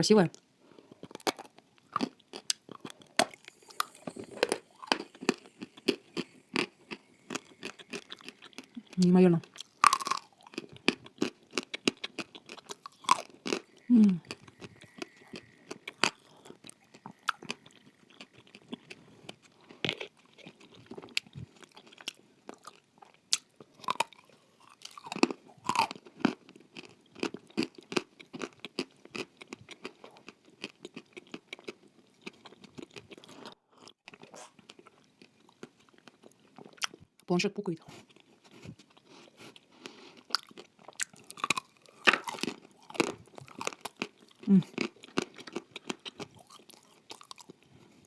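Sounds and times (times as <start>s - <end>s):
person chewing crunchy food: 0.6s - 37.1s, 37.9s - 48.0s.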